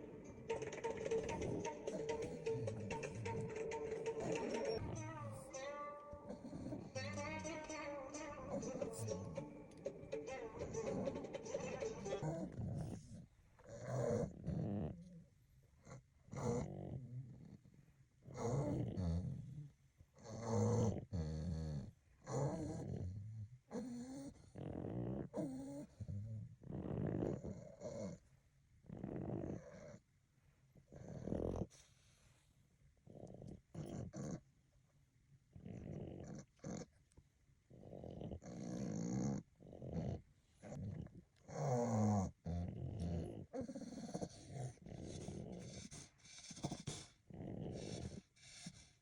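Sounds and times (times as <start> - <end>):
dogs snoring and snorting: 0.0 - 30.2, 30.8 - 34.6, 35.5 - 49.0.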